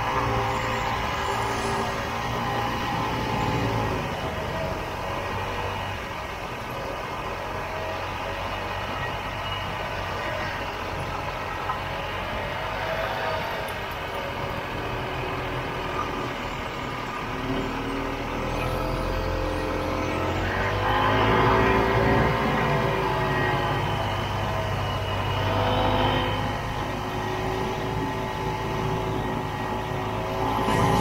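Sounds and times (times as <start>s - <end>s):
snowmobile engine running: 0.0s - 31.0s
snowmobile track noise: 0.0s - 31.0s.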